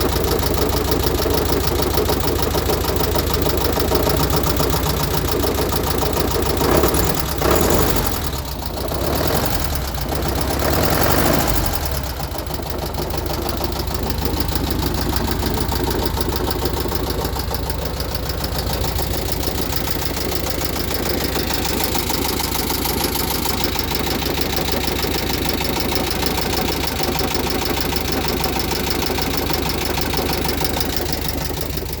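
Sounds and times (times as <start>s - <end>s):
car engine revving and idling: 0.0s - 32.0s
rapid even engine knocking: 0.0s - 32.0s.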